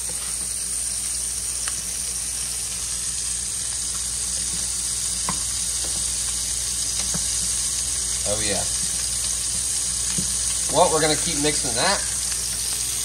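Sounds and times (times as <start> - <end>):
fish sizzling in hot grease: 0.0 - 13.0.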